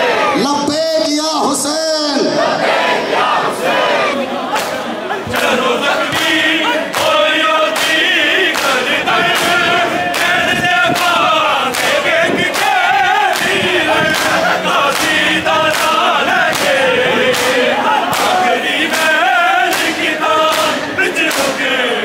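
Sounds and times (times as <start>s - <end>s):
crowd chanting a lament: 0.0s - 0.8s, 1.4s - 22.0s.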